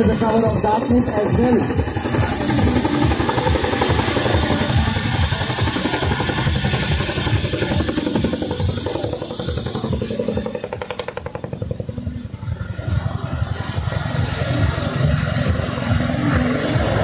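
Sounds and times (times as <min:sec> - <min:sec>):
helicopter rotors beating: 0:00.0 - 0:17.0.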